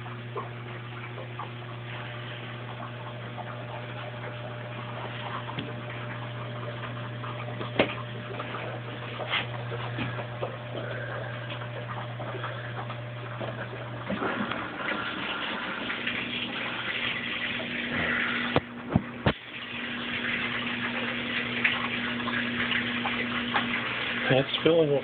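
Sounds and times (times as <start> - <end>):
washing machine hum: 0.0 - 25.0.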